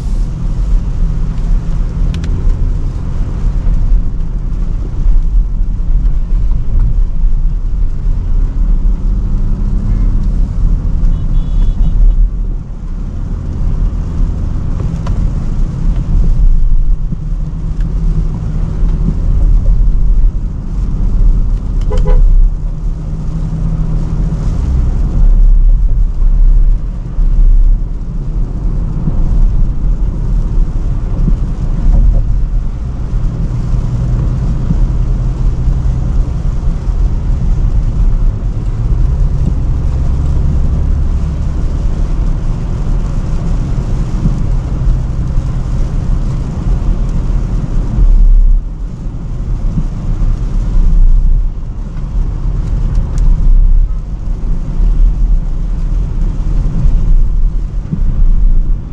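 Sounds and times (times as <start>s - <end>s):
car engine drone: 0.0s - 58.9s
road and tyre noise: 0.0s - 58.9s.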